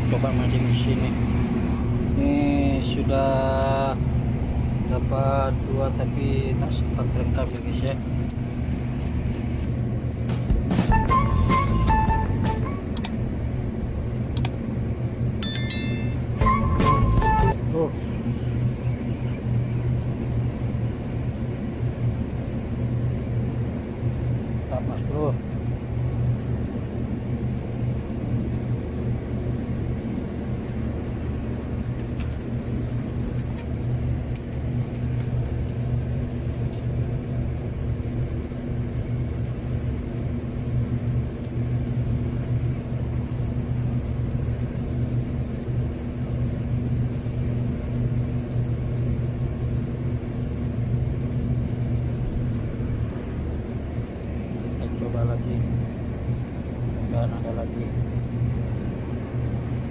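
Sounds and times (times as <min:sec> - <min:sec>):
ship engine droning: 0:00.0 - 0:59.9.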